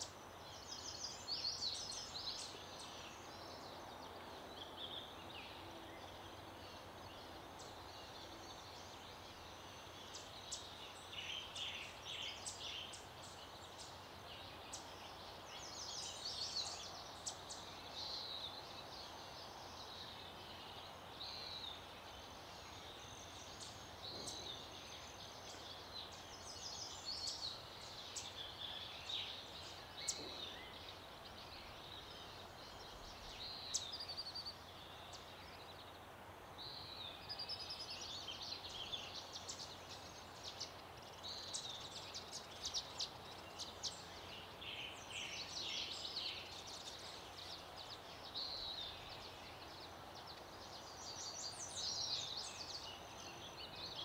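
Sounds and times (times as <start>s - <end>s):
birds chirping and twittering: 0.0s - 54.0s
steady outdoor hiss: 0.0s - 54.0s.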